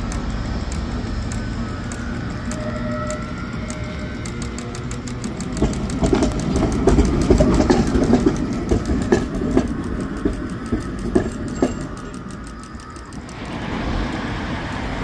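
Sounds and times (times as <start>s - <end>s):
tram running gear rumbling: 0.0s - 15.0s
wheels clacking over rail joints: 0.0s - 15.0s.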